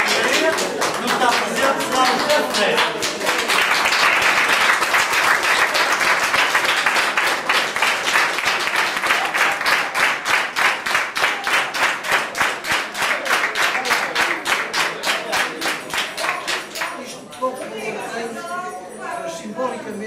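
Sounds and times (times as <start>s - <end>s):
people clapping in unison: 0.0s - 17.2s.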